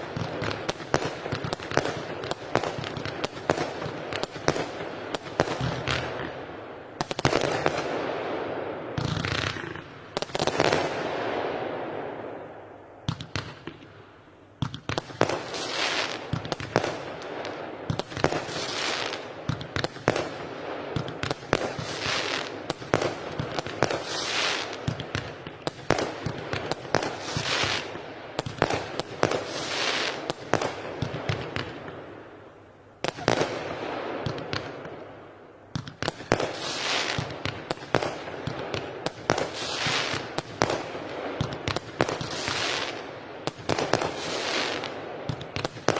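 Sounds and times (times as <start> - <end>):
firework bangs with crackling: 0.0 - 11.8, 13.1 - 13.9, 14.6 - 32.0, 33.0 - 35.0, 35.7 - 45.9.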